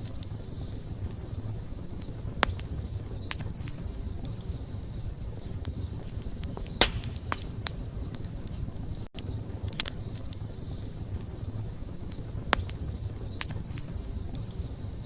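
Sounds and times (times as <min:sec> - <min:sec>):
campfire flame rumble: 0:00.0 - 0:15.0
fire crackling and popping: 0:00.0 - 0:15.0.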